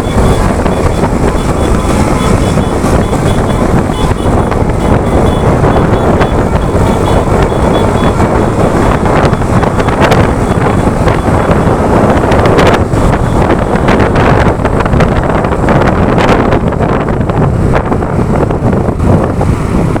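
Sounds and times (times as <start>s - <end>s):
road vehicle rumble: 0.0s - 20.0s
wind buffeting microphone: 0.0s - 20.0s.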